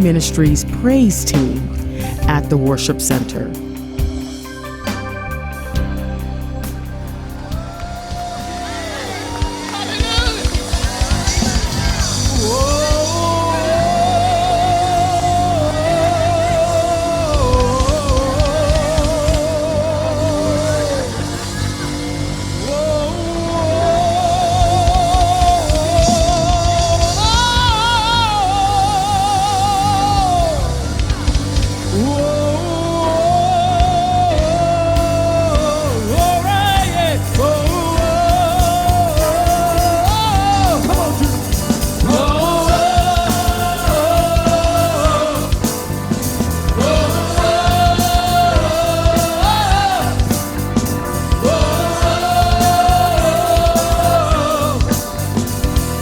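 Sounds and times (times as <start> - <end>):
band with drums and bass: 0.0 - 56.0
person singing with vibrato: 7.9 - 55.9.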